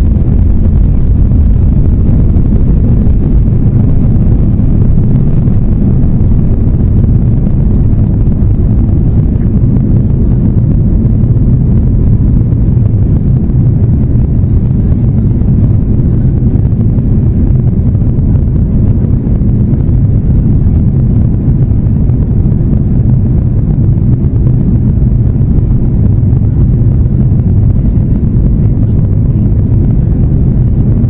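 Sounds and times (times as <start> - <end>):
jet engines rumbling in cabin: 0.0 - 31.0.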